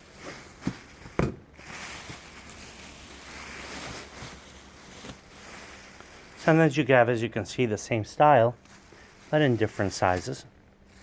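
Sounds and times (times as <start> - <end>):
dress rustling: 0.0 - 6.8, 8.6 - 11.0.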